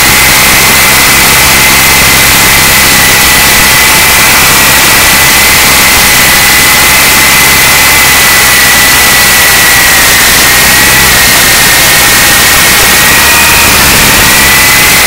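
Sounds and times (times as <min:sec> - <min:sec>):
toy helicopter motors and rotors: 0:00.0 - 0:15.0.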